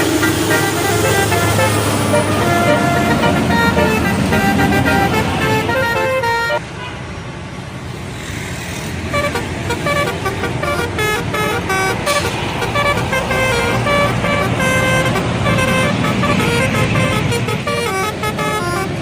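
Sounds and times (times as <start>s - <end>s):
bus melody horn: 0.0s - 6.6s, 9.1s - 19.0s
bus engine: 0.0s - 19.0s
road noise: 0.0s - 19.0s.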